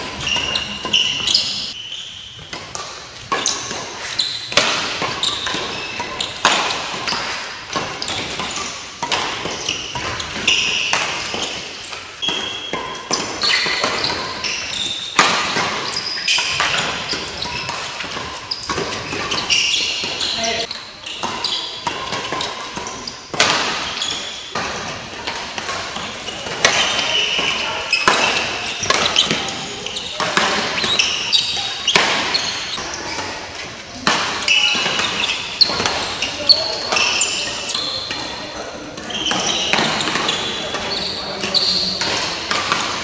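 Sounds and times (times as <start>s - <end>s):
rackets hitting shuttlecock: 0.0s - 43.0s
shoes squeaking: 0.0s - 43.0s.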